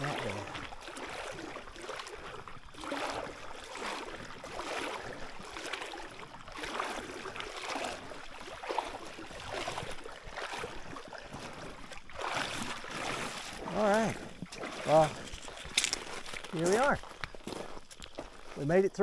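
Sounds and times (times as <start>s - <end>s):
water sloshing around wading legs: 0.0s - 19.0s.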